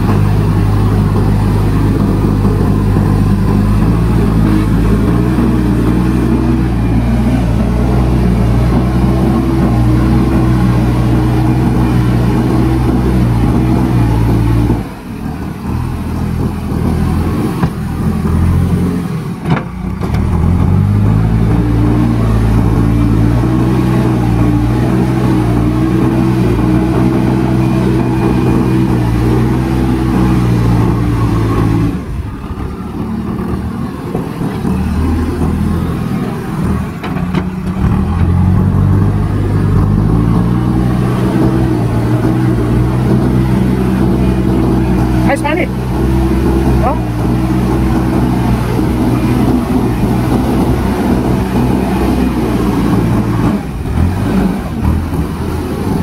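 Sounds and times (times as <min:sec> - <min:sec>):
diesel engine working under load: 0:00.0 - 0:56.0
loader bucket pushing soil and rocks: 0:00.0 - 0:56.0.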